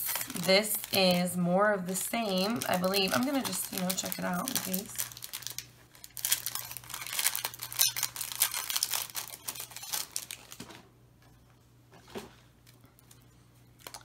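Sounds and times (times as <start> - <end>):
plastic packaging crinkling: 0.0 - 10.9, 12.1 - 14.0.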